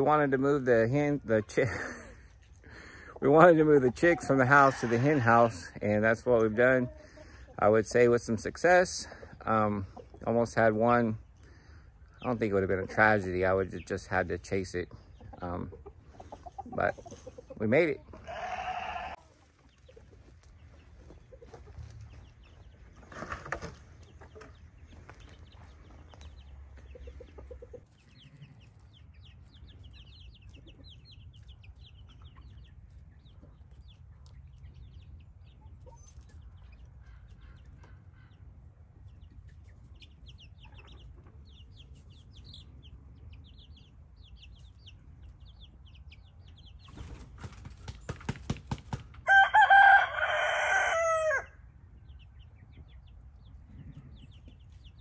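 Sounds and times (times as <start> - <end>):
chickens clucking: 0.0 - 55.0
chicks peeping: 0.0 - 55.0.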